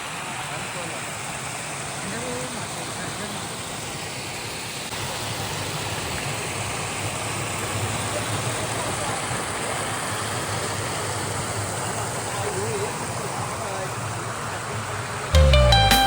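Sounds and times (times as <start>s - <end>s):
water rushing: 0.0s - 15.3s.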